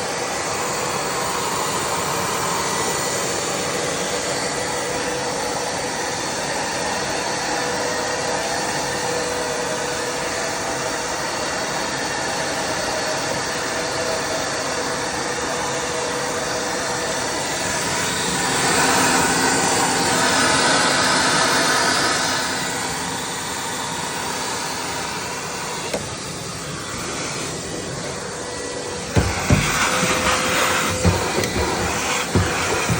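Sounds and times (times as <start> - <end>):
wet dry vacuum whining: 0.0 - 32.9.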